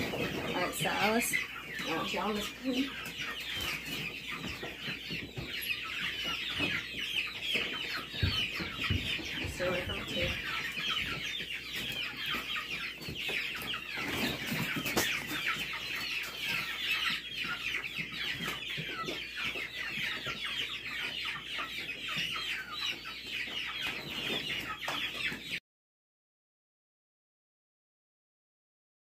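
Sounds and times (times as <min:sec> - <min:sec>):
chicks peeping: 0:00.0 - 0:25.6.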